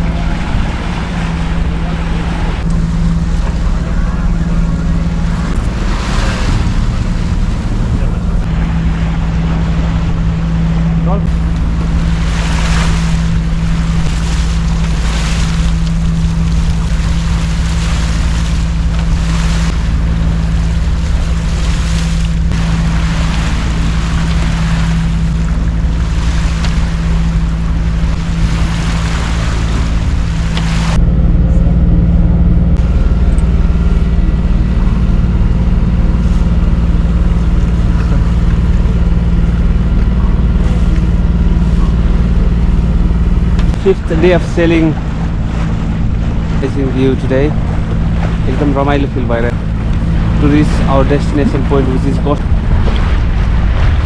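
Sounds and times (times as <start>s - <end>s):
low engine hum: 0.0s - 54.0s
water rushing along hull: 0.0s - 54.0s
wind on microphone: 0.0s - 54.0s.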